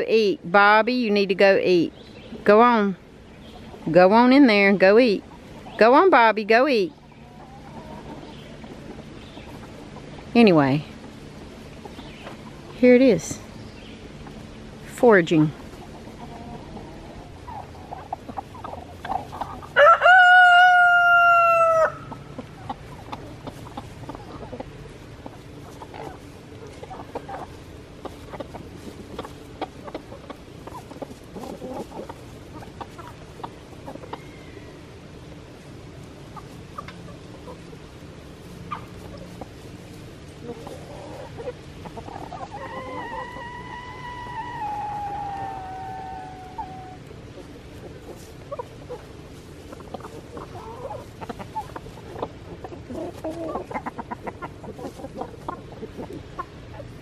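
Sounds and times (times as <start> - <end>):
chickens clucking: 0.1 - 57.0.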